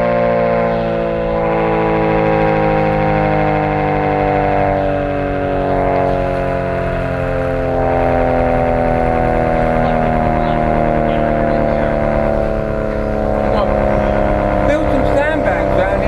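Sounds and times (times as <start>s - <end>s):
air-raid siren: 0.0s - 16.0s.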